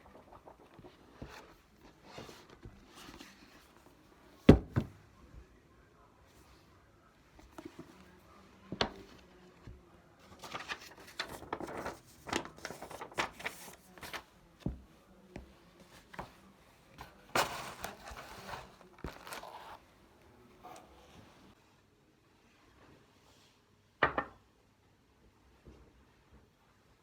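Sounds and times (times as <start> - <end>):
crinkling and rustling by hand: 0.0 - 21.6.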